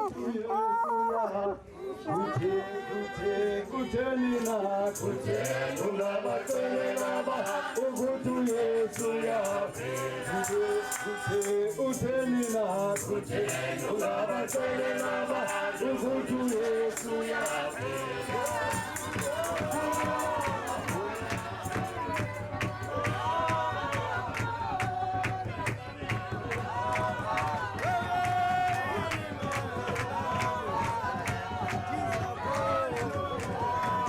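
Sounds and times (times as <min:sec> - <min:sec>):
voices singing in harmony: 0:00.0 - 0:34.0
shaker rhythm: 0:04.3 - 0:34.0.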